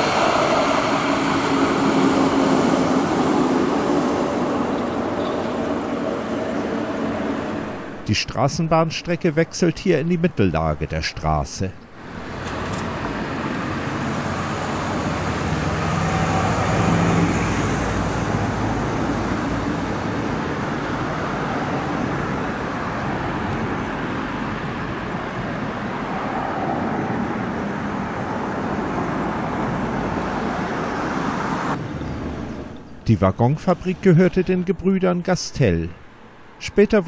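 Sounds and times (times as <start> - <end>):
cars passing on street: 0.0 - 37.0.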